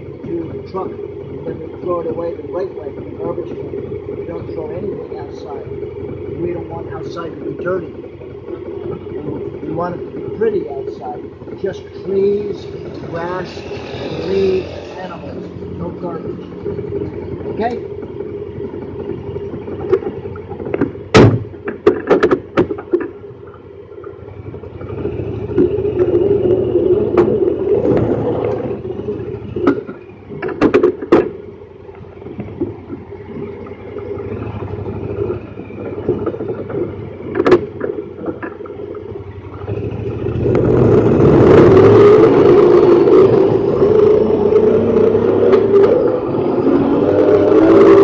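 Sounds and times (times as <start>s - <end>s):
clunks and rattles: 0.0s - 48.0s
engine idling: 0.0s - 48.0s.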